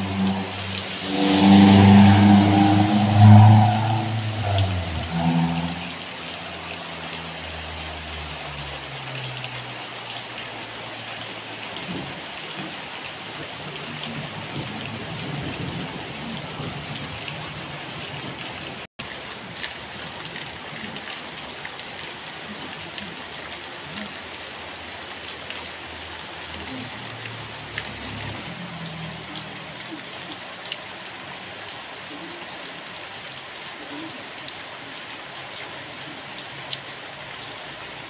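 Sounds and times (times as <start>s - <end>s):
rain on leaves and grass: 0.0s - 38.0s.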